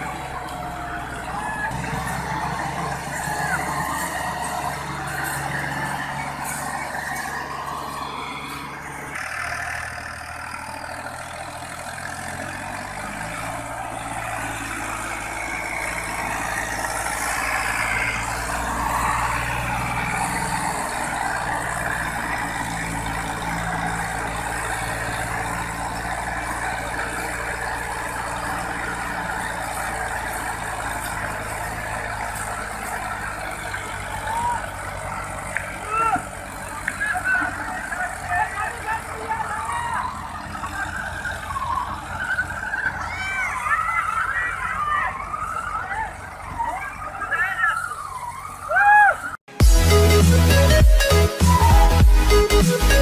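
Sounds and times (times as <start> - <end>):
tractor engine under load: 0.0 - 53.0.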